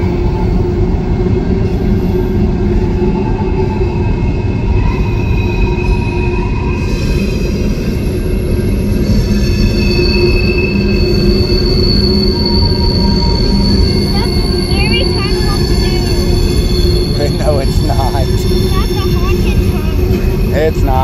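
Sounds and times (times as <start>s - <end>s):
steel wheels squealing on rails: 0.0s - 21.0s.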